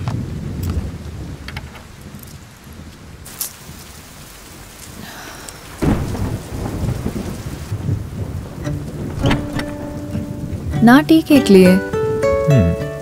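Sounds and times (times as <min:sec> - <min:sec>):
thunder rumbling: 0:00.0 - 0:12.3
steady rain: 0:00.0 - 0:13.0.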